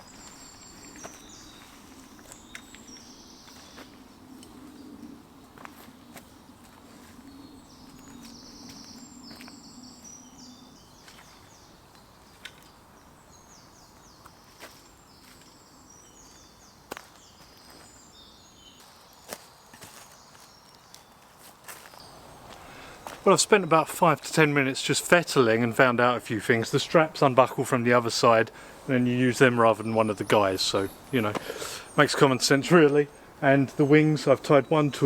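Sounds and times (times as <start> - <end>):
small birds trilling: 0.0 - 21.2, 21.8 - 35.0.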